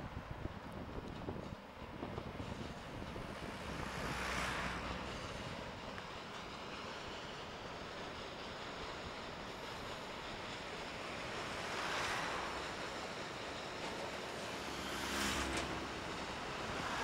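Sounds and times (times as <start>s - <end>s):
diesel locomotives passing: 0.0s - 17.0s.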